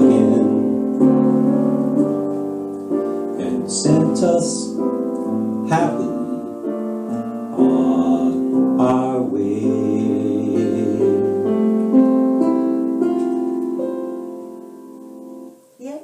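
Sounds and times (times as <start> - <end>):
keyboard playing jazz ballad chords: 0.0 - 15.8.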